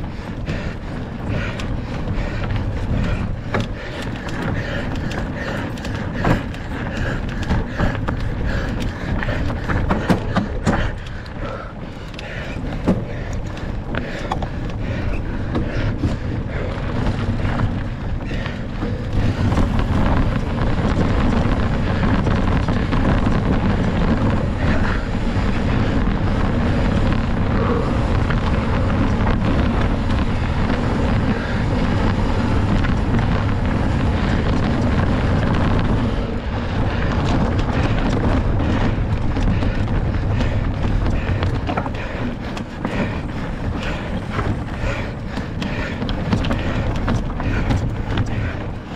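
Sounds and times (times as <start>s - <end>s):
bike rattling and knocking: 0.0s - 48.9s
bike tyres crunching: 0.0s - 48.9s
wind rushing over microphone: 0.0s - 48.9s.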